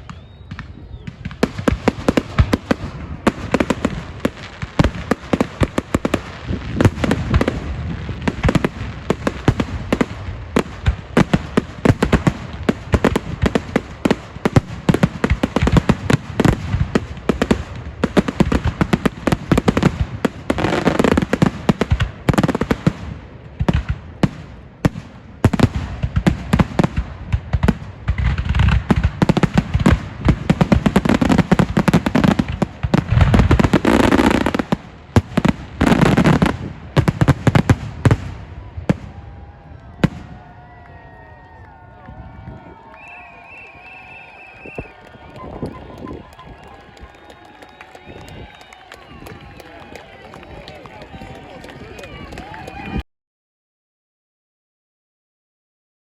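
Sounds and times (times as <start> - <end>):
fireworks cracks and bangs: 0.0 - 53.0.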